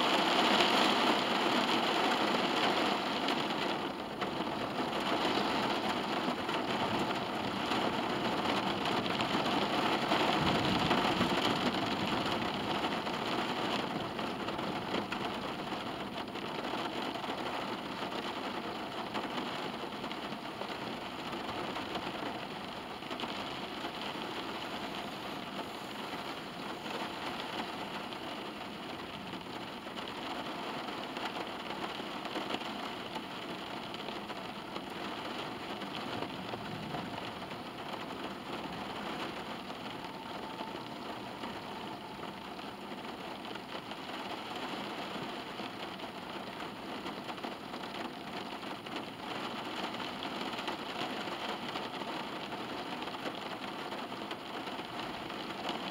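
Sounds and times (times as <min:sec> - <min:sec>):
rain pattering on car roof: 0:00.0 - 0:55.9.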